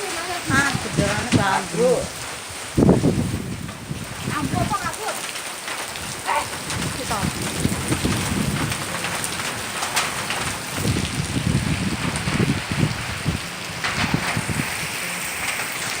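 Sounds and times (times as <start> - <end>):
heavy rain pouring: 0.0 - 16.0
wind gusting against microphone: 0.0 - 16.0.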